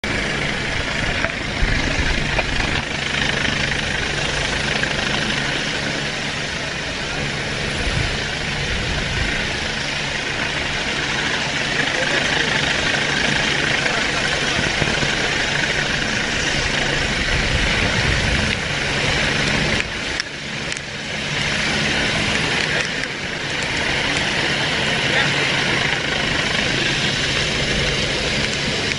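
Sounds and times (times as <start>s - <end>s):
engine drone: 0.0s - 28.9s
loud hissing wash: 0.0s - 28.9s.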